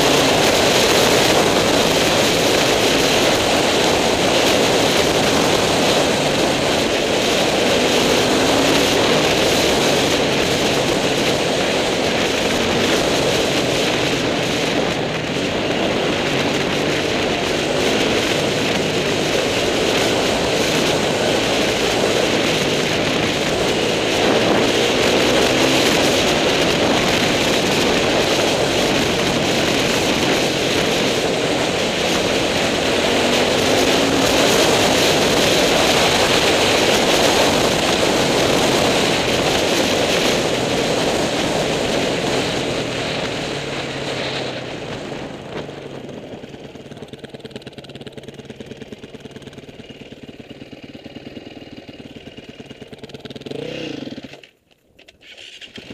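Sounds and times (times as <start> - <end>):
wind rush on microphone: 0.0 - 49.7
motorcycle engine running: 0.0 - 55.9.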